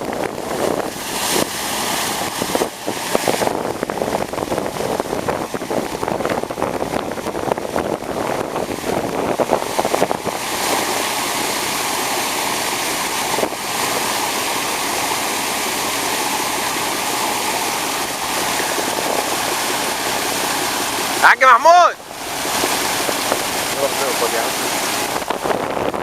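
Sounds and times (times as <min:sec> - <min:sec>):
rushing splashing water: 0:00.0 - 0:26.0.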